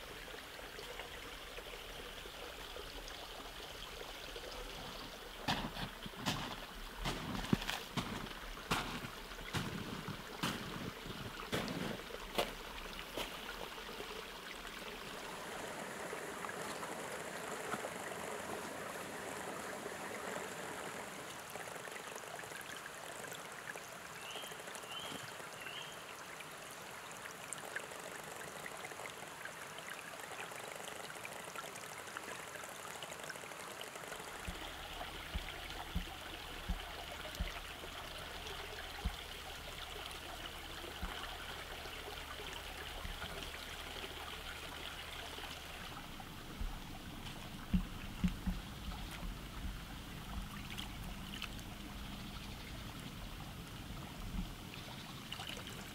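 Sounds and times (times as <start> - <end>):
stream trickling over rocks: 0.0 - 55.9.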